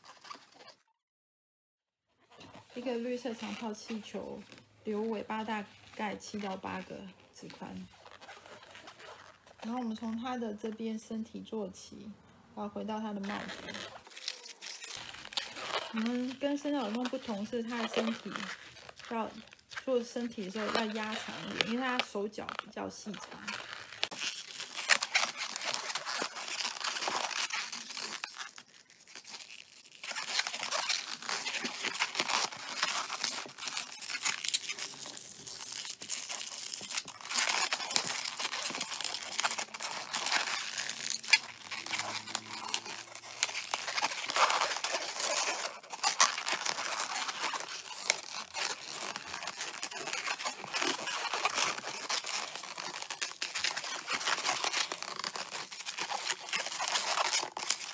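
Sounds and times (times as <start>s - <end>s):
balloon rubbing and crackling: 0.0s - 0.8s, 2.2s - 12.0s, 12.6s - 57.9s.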